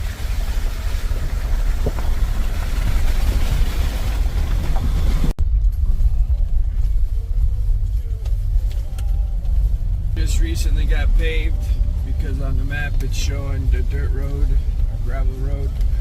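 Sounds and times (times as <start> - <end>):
rain and tyre spray hiss: 0.0 - 16.0
vehicle rumbling on wet road: 0.0 - 16.0.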